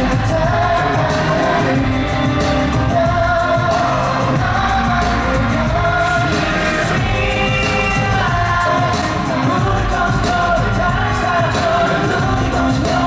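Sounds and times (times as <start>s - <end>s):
male group vocals singing: 0.0s - 13.0s
pop backing track: 0.0s - 13.0s.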